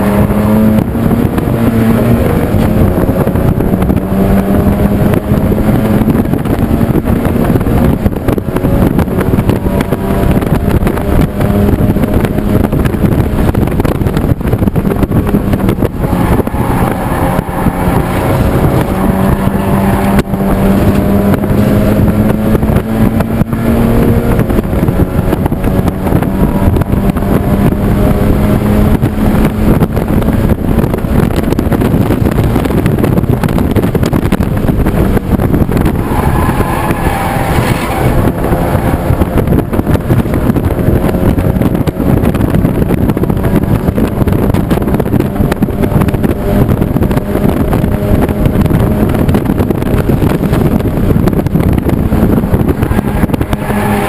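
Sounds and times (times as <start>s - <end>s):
race car engine at high revs: 0.0s - 54.0s
wind and road noise: 0.0s - 54.0s.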